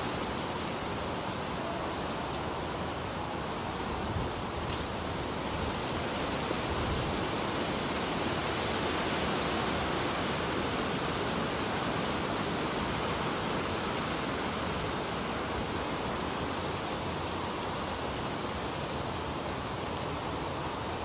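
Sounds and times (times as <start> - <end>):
wind blowing through trees: 0.0 - 21.0.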